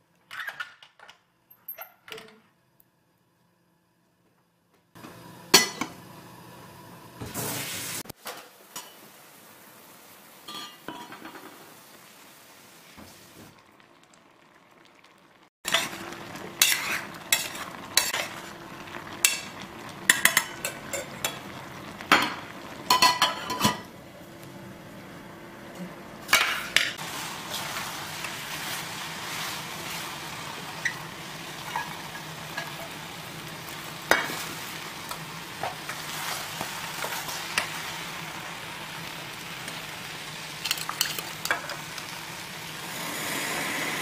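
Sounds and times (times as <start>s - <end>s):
water boiling in saucepan: 5.0s - 44.0s.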